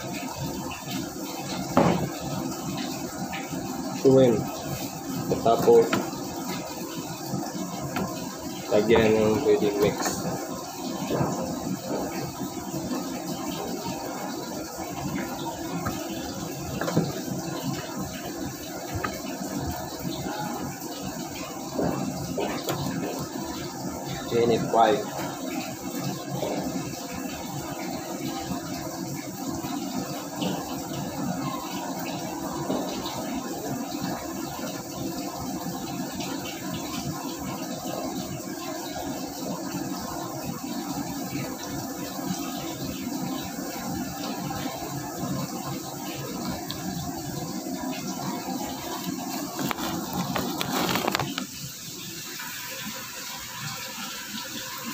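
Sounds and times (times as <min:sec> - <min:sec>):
kitchen background hiss: 0:00.0 - 0:54.9.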